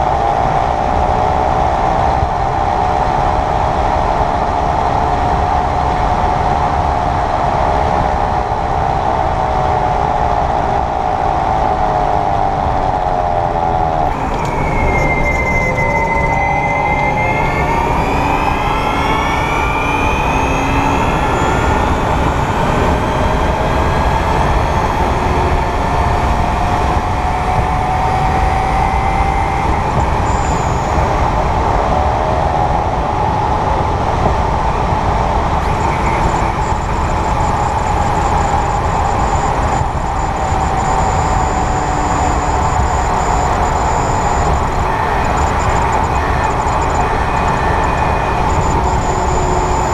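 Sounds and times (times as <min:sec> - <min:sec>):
electric drivetrain whine: 0:00.0 - 0:49.9
higher whine: 0:00.0 - 0:49.9
road noise: 0:00.0 - 0:49.9.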